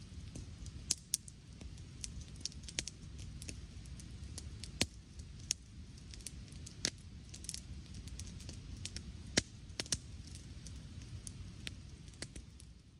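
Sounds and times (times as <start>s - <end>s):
campfire crackling and popping: 0.0s - 12.9s
low steady rumble: 0.0s - 12.9s.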